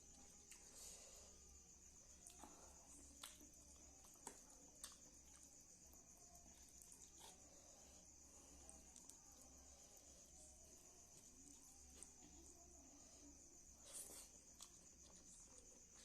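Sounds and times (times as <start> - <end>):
cricket trill: 0.0 - 16.0
soft eating clicks and smacks: 0.0 - 16.0.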